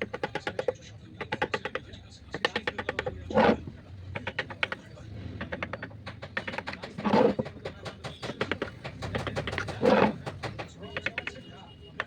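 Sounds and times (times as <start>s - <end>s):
light taps and clicks on workbench: 0.0s - 12.0s.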